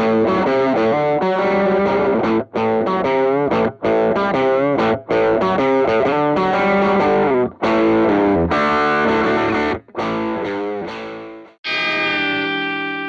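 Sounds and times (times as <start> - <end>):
distorted electric guitar chords: 0.0 - 13.0.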